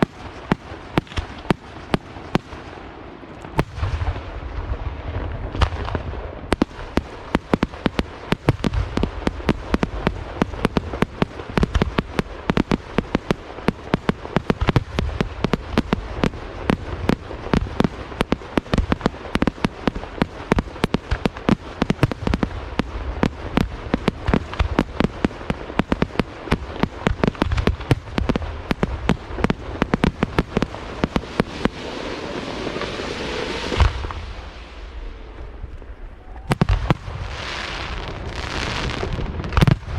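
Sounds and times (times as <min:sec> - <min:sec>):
fireworks hissing and whistling: 0:00.0 - 0:02.6, 0:06.7 - 0:35.3, 0:36.2 - 0:39.8
fireworks bangs: 0:00.0 - 0:39.9.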